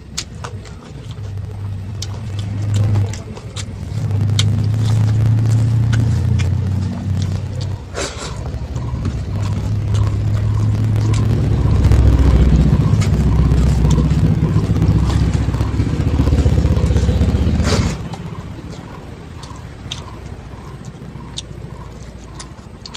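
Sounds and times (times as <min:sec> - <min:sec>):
loud low engine drone: 0:01.1 - 0:22.9.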